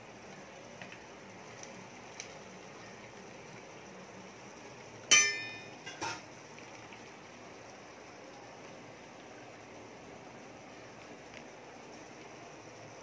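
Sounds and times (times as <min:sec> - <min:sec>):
water boiling hiss: 0:00.0 - 0:13.0.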